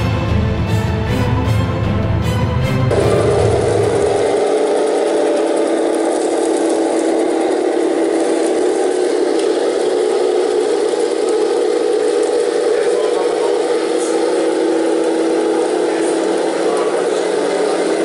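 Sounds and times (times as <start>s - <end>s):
model tank mechanical hum: 2.9s - 18.0s.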